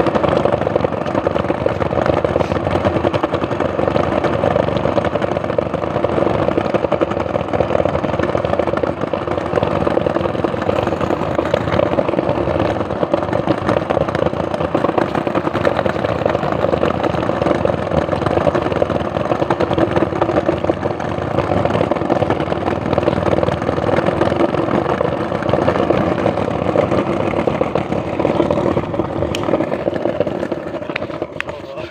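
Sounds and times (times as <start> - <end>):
skateboard wheels rolling on bricks: 0.0 - 31.9.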